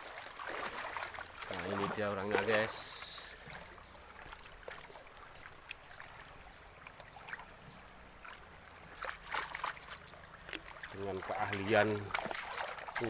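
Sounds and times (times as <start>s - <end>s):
small clicks and splashes: 0.0s - 13.0s
water trickling and sloshing: 0.0s - 13.0s.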